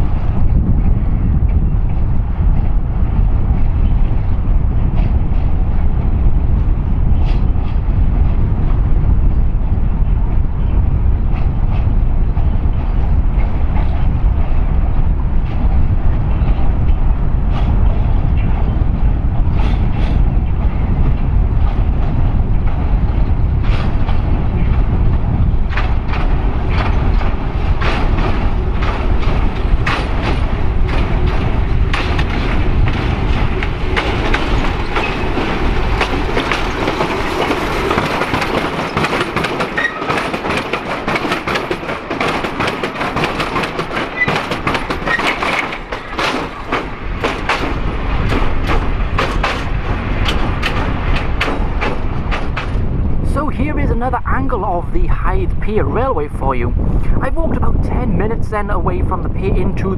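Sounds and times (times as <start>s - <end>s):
train wheels clicking on rail joints: 0.0s - 53.2s
wind rumble on microphone: 0.0s - 59.9s.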